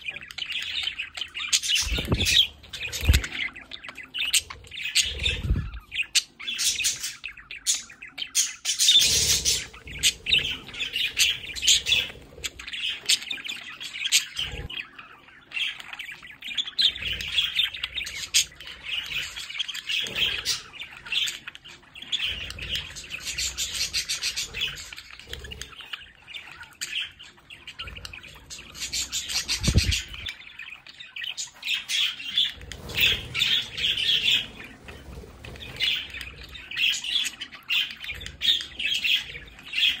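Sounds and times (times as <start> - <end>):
budgerigars chattering: 0.0 - 40.0.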